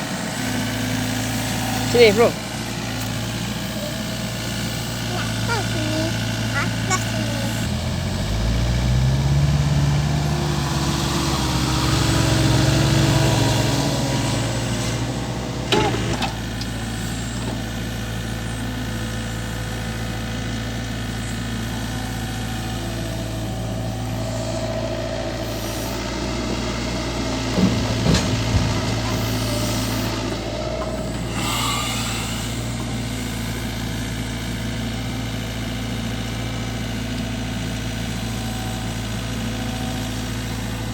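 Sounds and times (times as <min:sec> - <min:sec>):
diesel engine idling and revving: 0:00.0 - 0:40.9.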